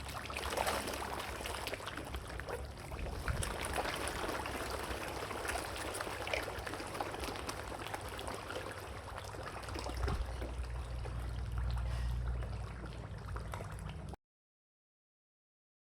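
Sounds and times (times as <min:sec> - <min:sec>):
water trickling and splashing: 0:00.0 - 0:14.2.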